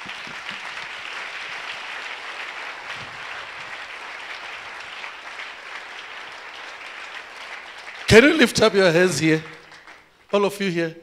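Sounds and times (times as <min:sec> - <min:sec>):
crowd clapping: 0:00.0 - 0:10.7.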